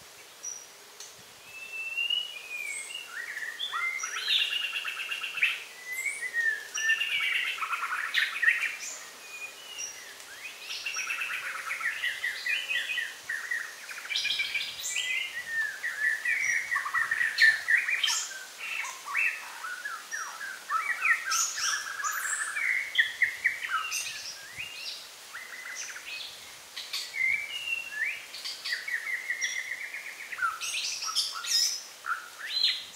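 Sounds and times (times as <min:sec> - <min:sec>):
small birds chirping and trilling: 0:00.2 - 0:32.9.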